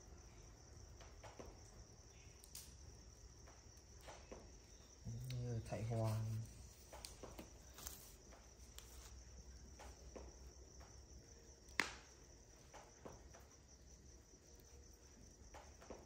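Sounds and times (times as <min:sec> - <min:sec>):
crickets trilling: 0:00.0 - 0:16.0
fire crackling and popping: 0:01.0 - 0:05.5, 0:06.4 - 0:16.0.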